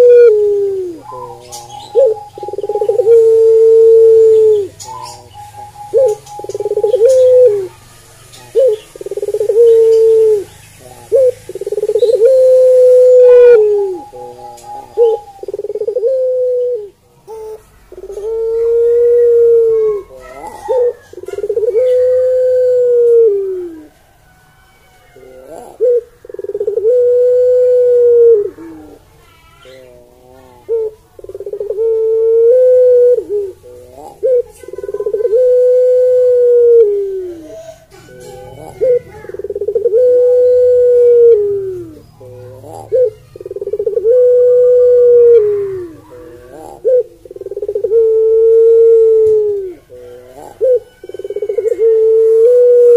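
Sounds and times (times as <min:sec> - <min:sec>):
dove cooing: 0:00.0 - 0:24.2, 0:25.2 - 0:52.9.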